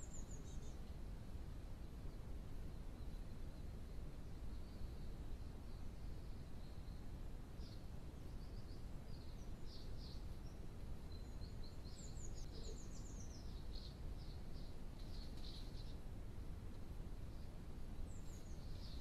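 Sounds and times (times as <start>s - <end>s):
small birds chirping: 0.0s - 1.2s, 1.8s - 19.0s
low rumbling hiss: 0.0s - 19.0s.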